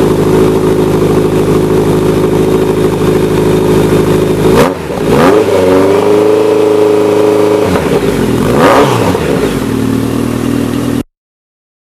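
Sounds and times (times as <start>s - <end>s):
motorcycle engine revving and idling: 0.0s - 11.1s.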